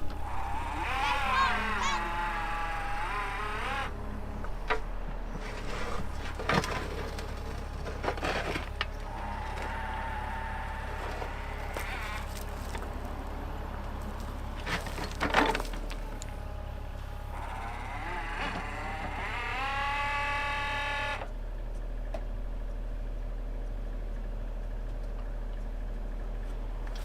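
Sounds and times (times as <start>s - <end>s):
mini excavator running: 0.0s - 27.0s.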